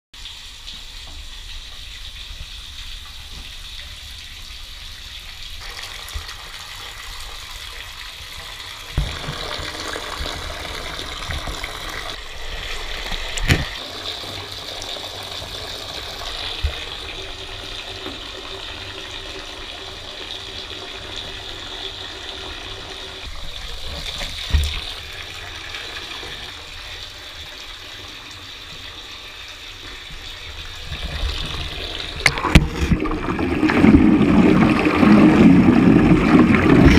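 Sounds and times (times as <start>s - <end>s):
shower water spraying into bathtub: 0.2s - 36.9s.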